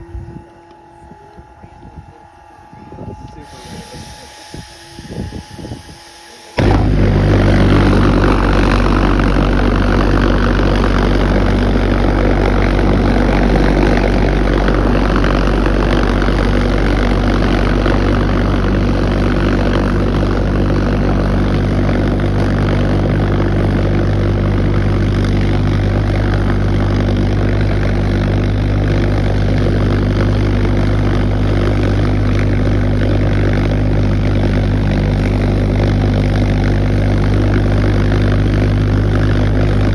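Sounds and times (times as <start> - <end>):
pulse jet engine buzzing drone: 0.0 - 39.9.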